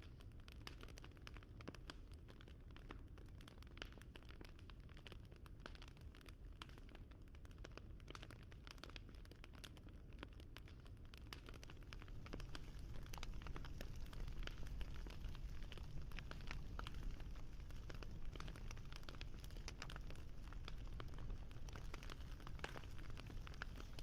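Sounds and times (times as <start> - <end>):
wood fire crackling: 0.3 - 24.0.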